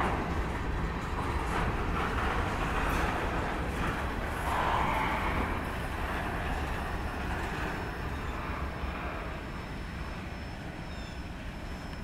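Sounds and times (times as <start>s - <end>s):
freight train rolling by: 0.0s - 12.0s.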